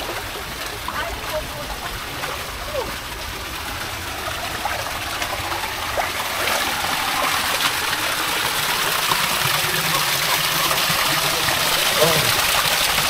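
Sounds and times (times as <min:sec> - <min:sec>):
pool water running and splashing: 0:00.0 - 0:13.0.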